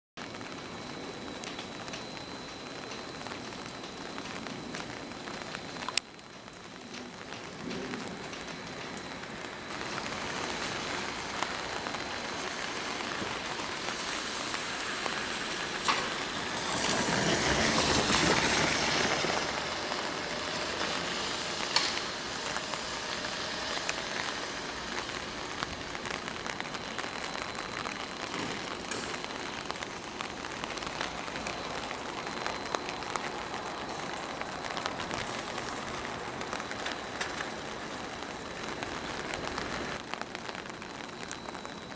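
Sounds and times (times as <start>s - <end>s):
heavy rain spattering: 0.2s - 41.9s.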